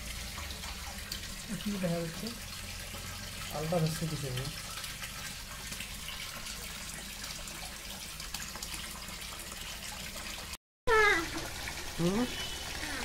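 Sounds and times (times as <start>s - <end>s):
water pouring into fish tank: 0.0s - 13.0s.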